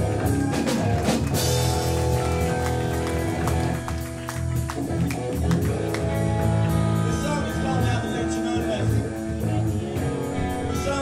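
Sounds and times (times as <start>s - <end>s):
metal band playing live: 0.0s - 11.0s.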